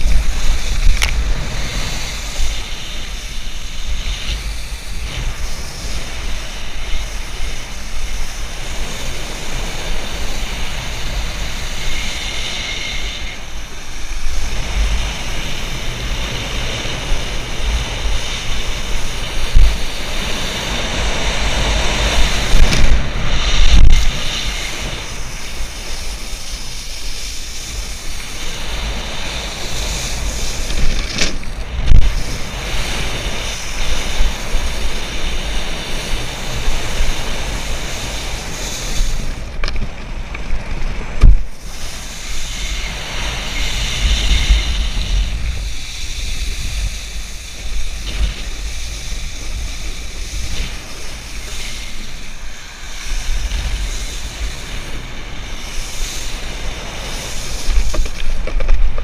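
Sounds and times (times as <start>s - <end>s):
water rushing and spraying: 0.0s - 59.0s
wind buffeting microphone: 0.0s - 59.0s.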